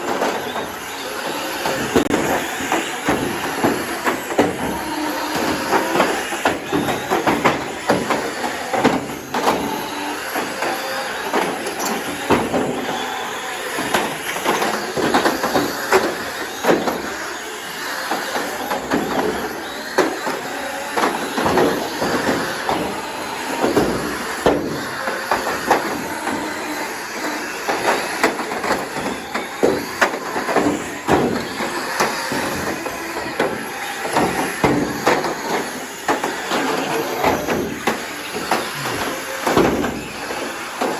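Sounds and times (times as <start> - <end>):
radio-controlled car motors: 0.0 - 40.9
toy cars colliding: 0.0 - 40.9.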